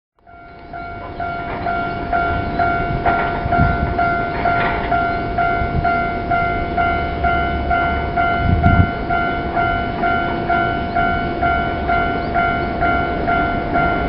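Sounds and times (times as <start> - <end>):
electric train rumble: 0.2 - 14.0
level crossing alarm dinging: 0.2 - 14.0.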